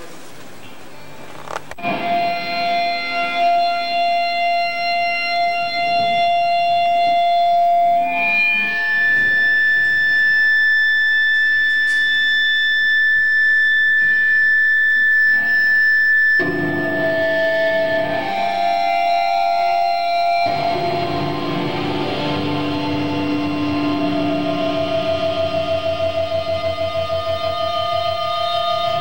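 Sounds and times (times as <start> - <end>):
live band playing: 1.8 - 12.8, 15.1 - 29.0
long held note: 1.8 - 29.0.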